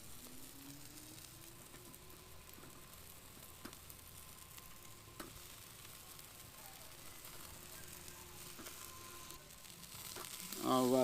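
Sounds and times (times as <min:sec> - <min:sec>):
meat sizzling over wood fire: 0:00.0 - 0:11.0
fire sharp pops: 0:01.6 - 0:11.0.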